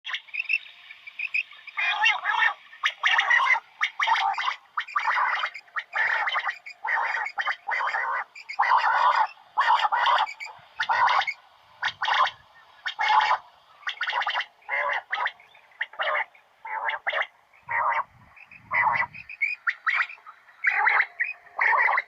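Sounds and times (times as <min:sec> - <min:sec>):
quail calling: 0:00.1 - 0:22.0.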